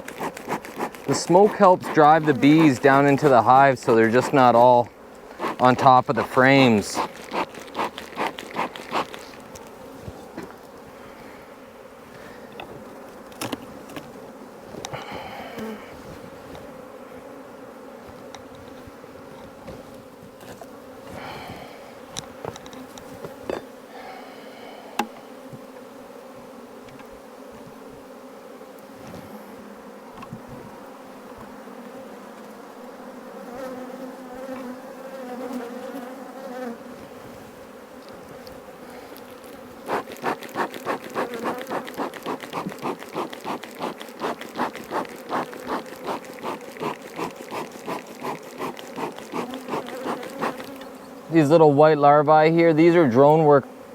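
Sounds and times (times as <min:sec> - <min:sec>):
honeybees buzzing: 0:00.0 - 0:53.9.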